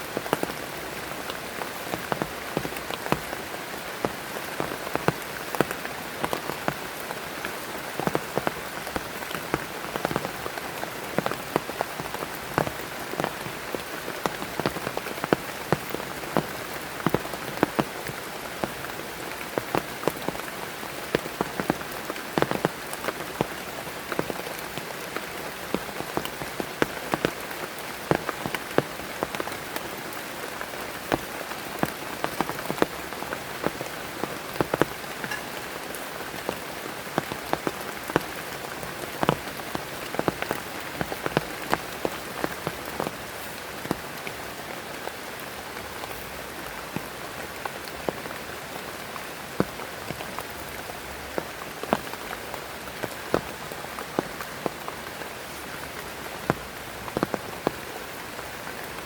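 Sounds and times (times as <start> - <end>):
heavy rain hiss: 0.0 - 59.0
raindrops tapping a surface: 0.0 - 59.0.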